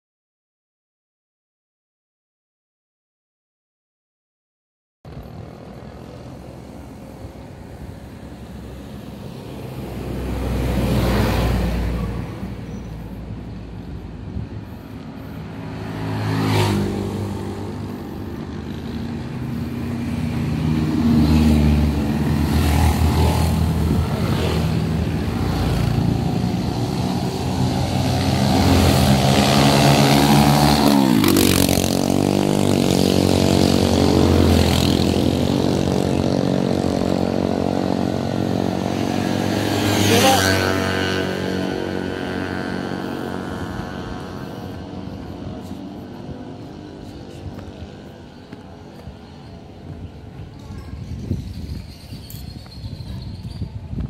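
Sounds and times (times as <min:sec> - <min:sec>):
steady engine drone: 0:05.1 - 0:50.6
vehicle engines passing: 0:05.1 - 0:54.0.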